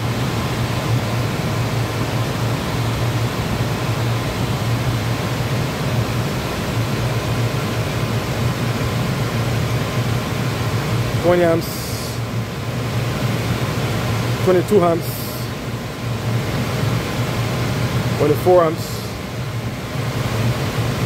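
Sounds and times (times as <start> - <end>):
air conditioning unit humming: 0.0 - 21.0.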